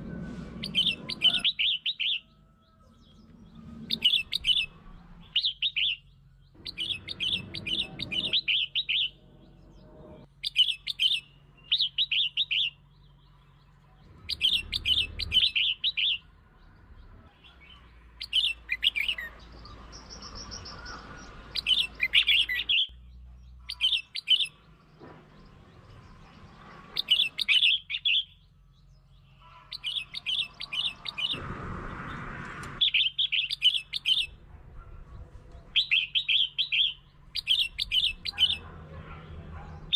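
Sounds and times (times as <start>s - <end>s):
bulbul chattering song: 0.6s - 2.6s, 3.8s - 24.7s, 26.3s - 31.4s, 32.8s - 34.5s, 35.5s - 39.9s.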